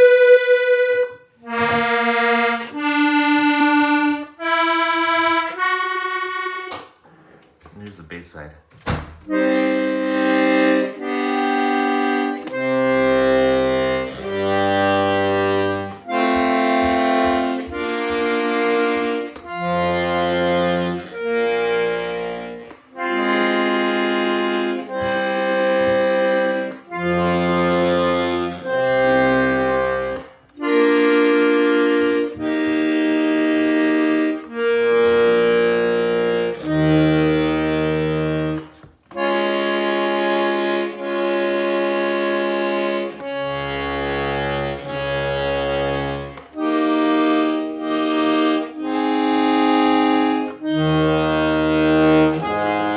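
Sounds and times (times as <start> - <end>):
accordion bass notes and chords: 0.0 - 52.9.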